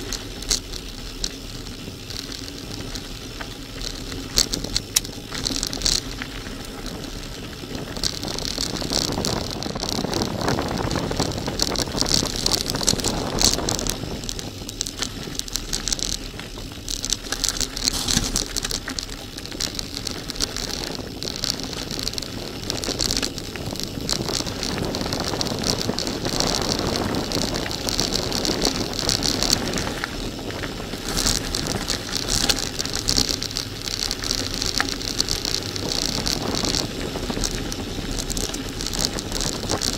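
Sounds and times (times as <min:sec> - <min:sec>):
bicycle tyres crunching on gravel: 0:00.0 - 0:39.9
bike rattling: 0:00.0 - 0:39.9
stones clicking: 0:00.0 - 0:39.9
wind buffeting microphone: 0:04.5 - 0:18.8, 0:19.6 - 0:39.9.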